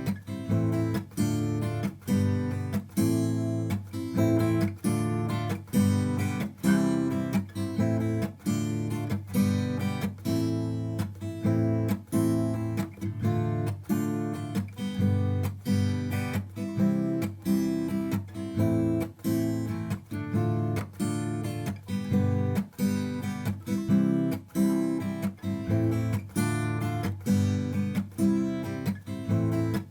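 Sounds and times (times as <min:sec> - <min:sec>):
acoustic guitar strumming chords: 0:00.0 - 0:29.9.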